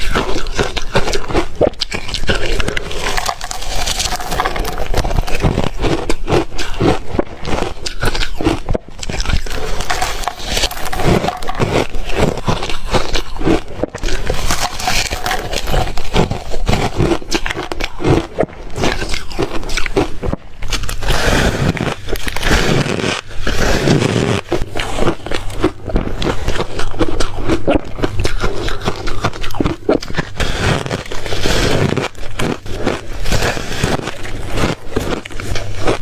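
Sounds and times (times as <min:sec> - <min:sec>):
ice crunching while chewed: 0:00.0 - 0:36.0.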